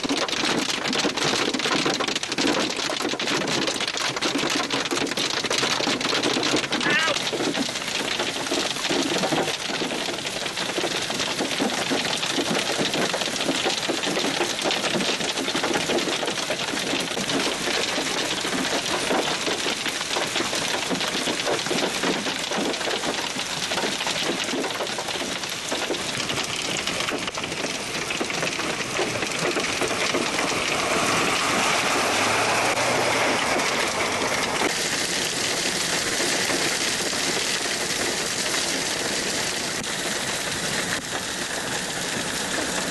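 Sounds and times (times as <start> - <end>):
heavy hail pelting: 0.0 - 42.9.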